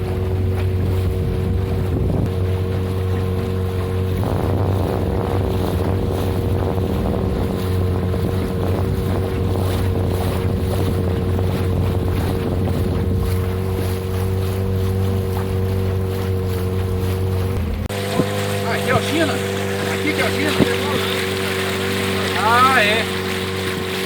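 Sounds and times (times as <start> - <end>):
motorboat engine running: 0.0 - 24.0
rushing water: 0.0 - 24.0
wind: 0.0 - 24.0.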